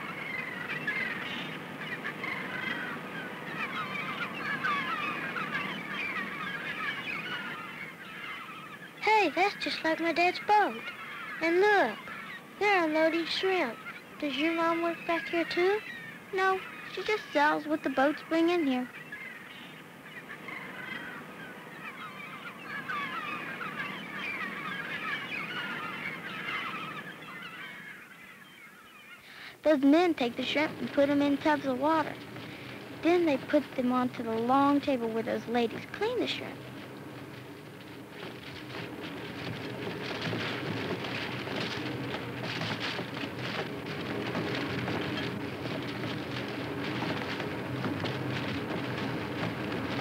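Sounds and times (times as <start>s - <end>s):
flock of birds calling: 0.0s - 50.0s.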